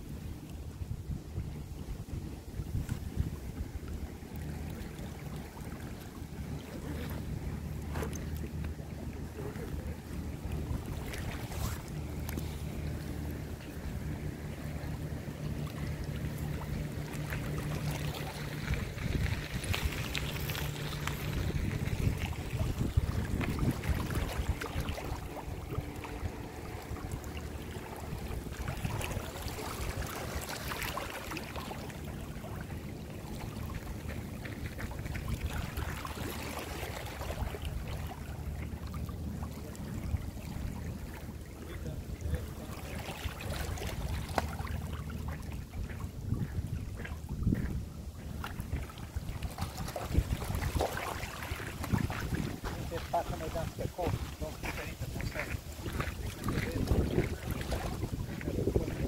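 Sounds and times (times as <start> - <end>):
wind buffeting microphone: 0.0 - 5.8, 6.4 - 31.9, 39.6 - 59.0
low engine hum: 0.0 - 59.0
water lapping: 0.0 - 59.0.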